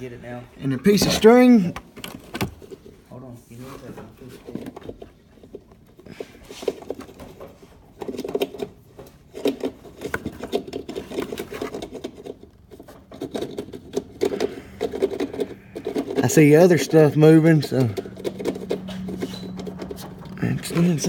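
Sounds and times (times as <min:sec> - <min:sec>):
scraping rubbing and clicking: 0:03.8 - 0:21.0.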